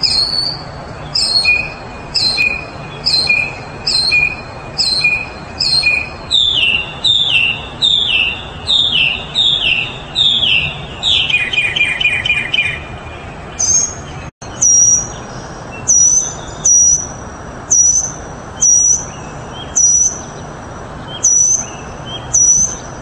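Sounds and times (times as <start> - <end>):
mockingbird singing: 0.0 - 23.0.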